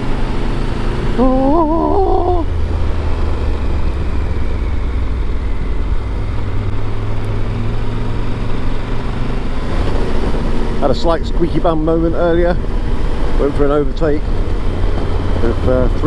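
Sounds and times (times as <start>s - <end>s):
motorcycle engine drone: 0.0s - 16.0s
road noise: 0.0s - 16.0s.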